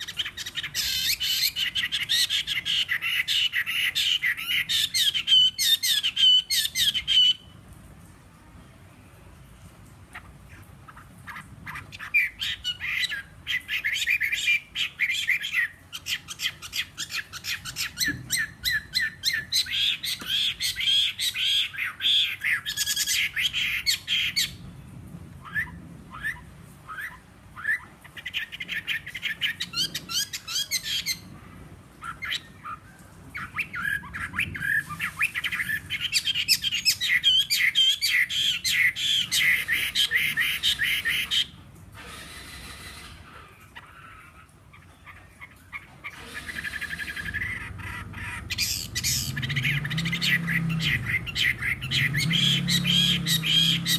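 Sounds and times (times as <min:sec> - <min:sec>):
caged bird singing: 0:00.0 - 0:07.6, 0:10.0 - 0:53.9.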